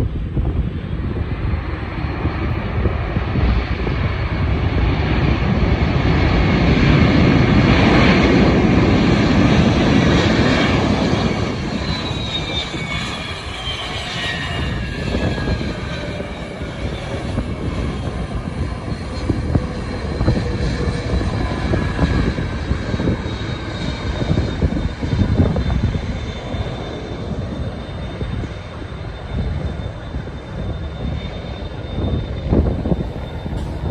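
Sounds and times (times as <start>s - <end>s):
airliner passing by: 0.0s - 33.9s.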